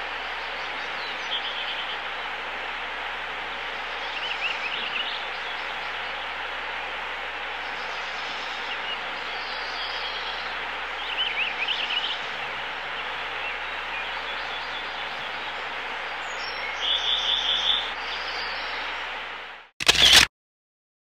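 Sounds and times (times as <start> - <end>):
songbirds chirping: 0.0 - 19.3
background hiss: 0.0 - 19.6.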